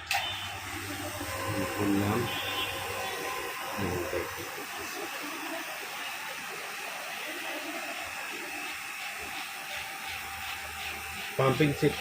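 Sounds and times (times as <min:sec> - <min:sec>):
gas hissing from pipe: 0:00.0 - 0:12.0.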